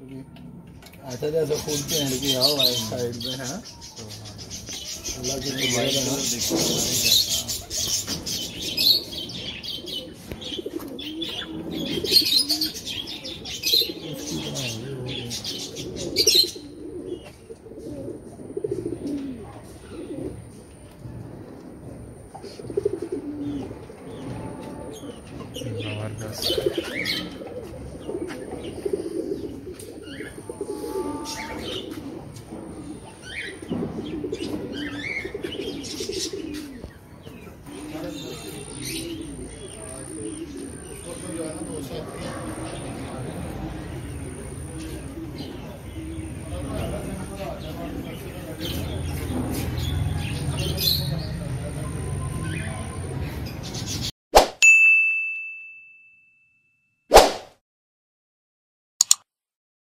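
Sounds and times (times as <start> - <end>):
birds chirping and tweeting: 0.0 - 54.1
birds cooing: 0.0 - 54.1.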